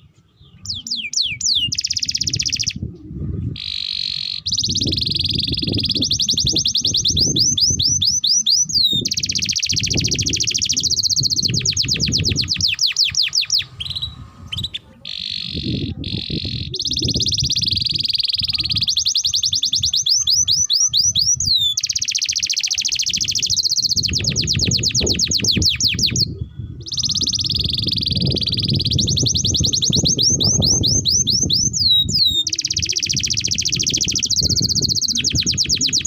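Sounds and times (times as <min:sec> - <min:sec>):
canary singing trills: 0:00.0 - 0:02.9, 0:03.5 - 0:36.0.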